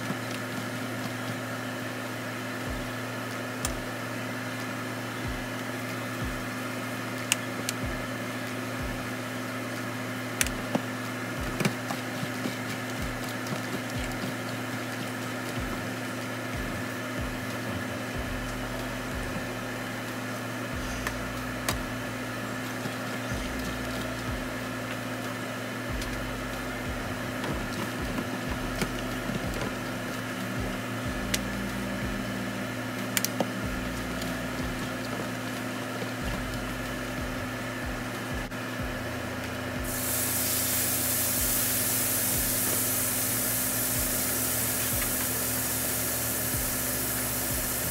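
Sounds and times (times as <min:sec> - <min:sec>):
kitchen appliances humming: 0:00.0 - 0:47.9.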